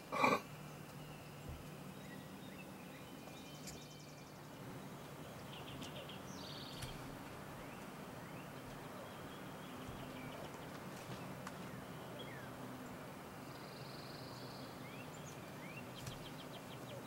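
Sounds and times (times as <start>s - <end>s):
small birds trilling and chirping: 0.0s - 17.0s.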